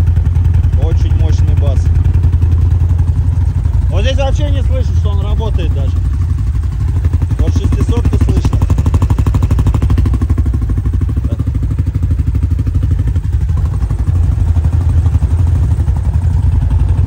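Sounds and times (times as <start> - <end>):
engine exhaust idling: 0.0 - 17.0.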